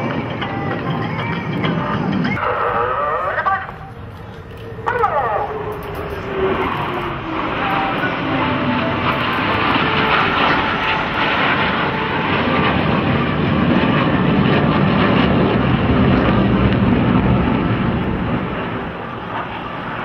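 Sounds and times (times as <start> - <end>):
jet aircraft flying overhead: 0.0 - 20.0.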